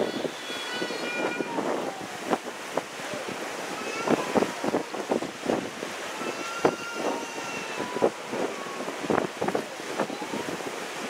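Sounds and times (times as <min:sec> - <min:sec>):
wind buffeting the microphone: 0:00.0 - 0:11.0.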